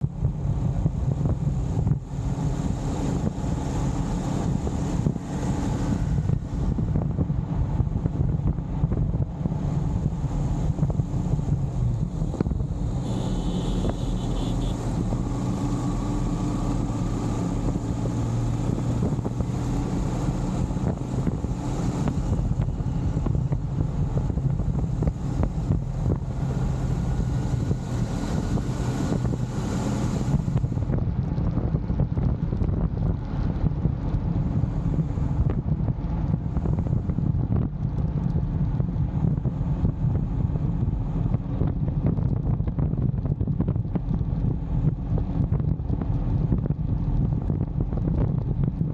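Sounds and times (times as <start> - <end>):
motorcycle engine hum: 0.0 - 48.9
street traffic: 0.0 - 48.9
wind rumble on microphone: 0.0 - 48.9.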